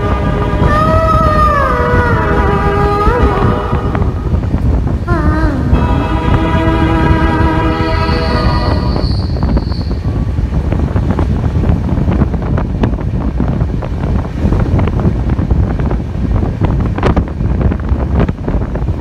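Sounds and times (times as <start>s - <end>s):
train rumble: 0.0s - 19.0s
wind buffeting microphone: 0.0s - 19.0s.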